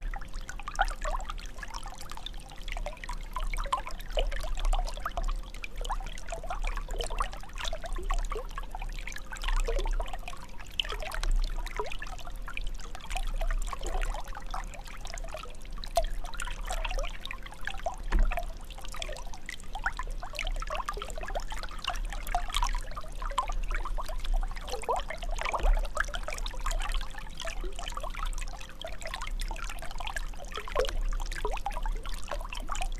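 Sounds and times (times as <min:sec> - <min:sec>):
water trickling and gurgling: 0:00.0 - 0:32.9.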